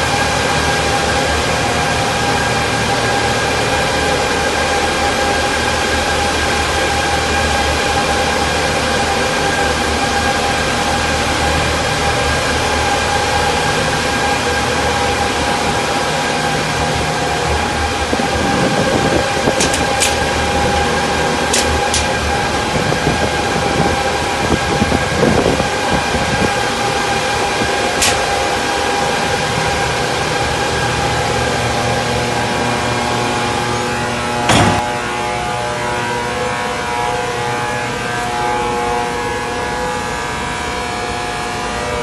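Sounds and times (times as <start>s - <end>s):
cooling fans whirring: 0.0s - 42.0s.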